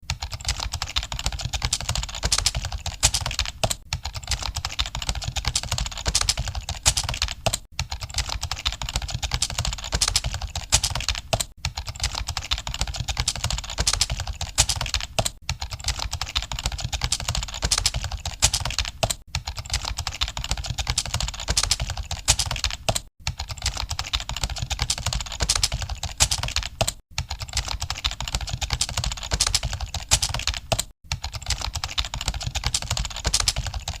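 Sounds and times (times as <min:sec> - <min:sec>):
fast typing on keyboard: 0:00.0 - 0:34.0.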